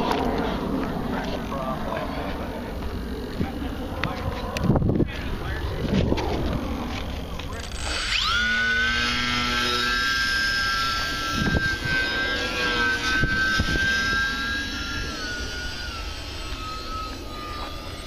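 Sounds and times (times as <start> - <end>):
wind buffeting microphone: 0.0 - 7.5, 8.9 - 18.0
model airplane motor whining: 0.0 - 18.0.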